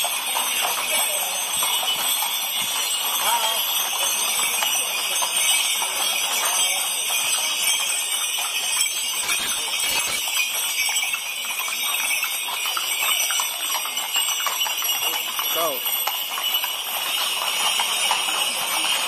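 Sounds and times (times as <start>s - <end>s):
harness bells jingling: 0.0s - 19.0s
hooves clip-clopping on pavement: 0.0s - 19.0s.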